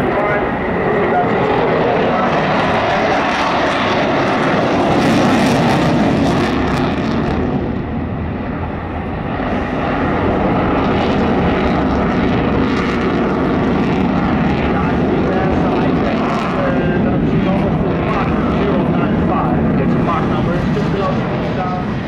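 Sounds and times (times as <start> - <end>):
aircraft engine rushing: 0.0 - 22.0.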